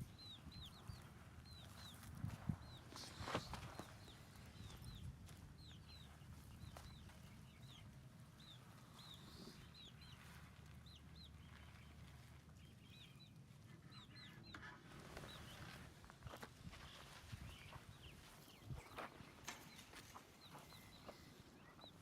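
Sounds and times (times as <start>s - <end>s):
baby chicks peeping: 0.0s - 22.0s.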